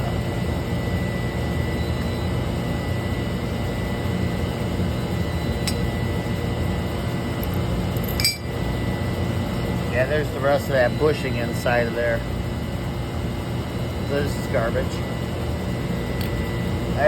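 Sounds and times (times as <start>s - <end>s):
machinery drone and electric hum: 0.0s - 17.0s.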